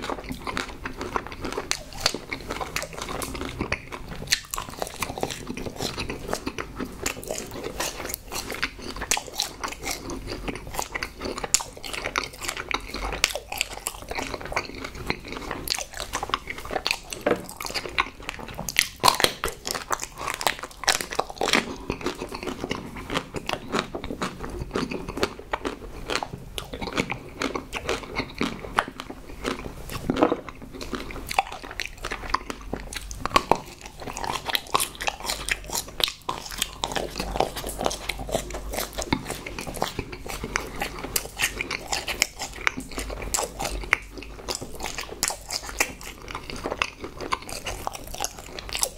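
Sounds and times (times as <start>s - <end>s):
close-miked chewing: 0.0s - 48.9s.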